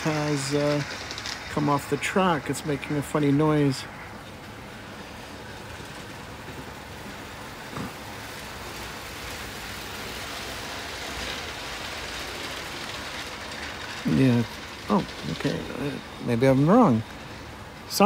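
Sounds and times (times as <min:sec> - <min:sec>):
model steam train rumbling: 0:00.0 - 0:18.0.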